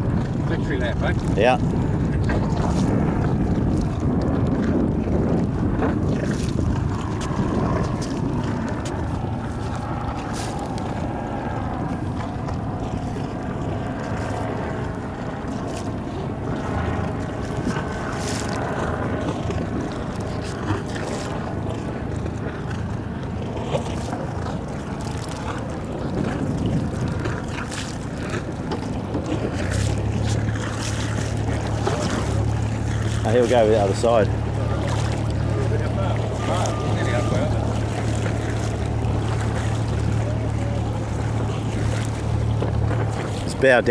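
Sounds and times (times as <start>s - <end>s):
motorboat engine running: 0.0s - 43.9s
wind buffeting microphone: 0.0s - 43.9s.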